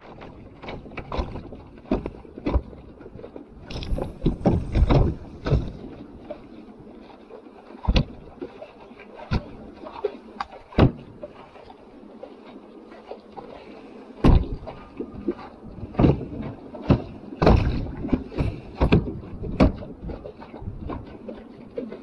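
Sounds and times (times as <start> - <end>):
paddle knocks and splashes: 0.0 - 22.0.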